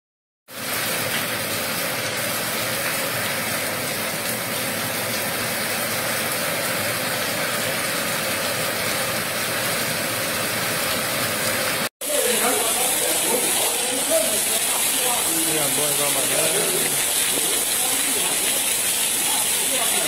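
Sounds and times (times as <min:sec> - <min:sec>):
heavy rain: 0:00.5 - 0:20.0.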